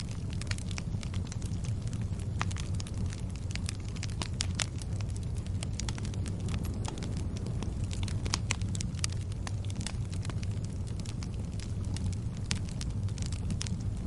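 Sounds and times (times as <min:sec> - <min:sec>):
fire crackling and popping: 0:00.0 - 0:14.0
wood fire rumbling: 0:00.0 - 0:14.0.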